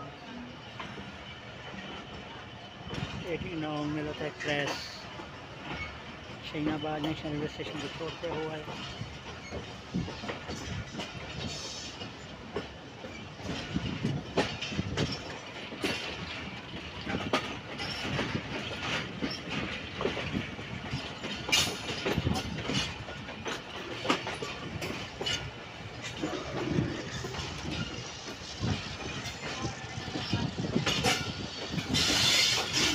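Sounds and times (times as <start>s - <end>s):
carriages rumbling: 0.0s - 32.9s
train wheels clicking over rail joints: 0.6s - 32.9s.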